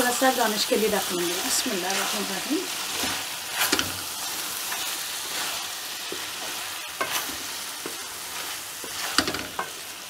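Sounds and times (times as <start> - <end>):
meat sizzling in a pot: 0.0 - 10.0
spatula scraping a pot: 1.2 - 9.9.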